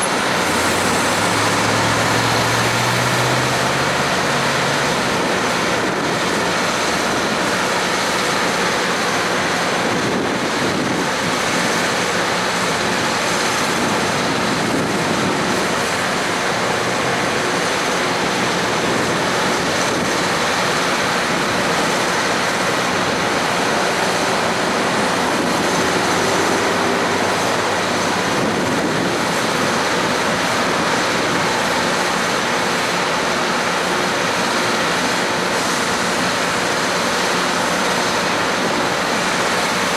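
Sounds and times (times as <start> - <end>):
train rushing noise: 0.0 - 39.9.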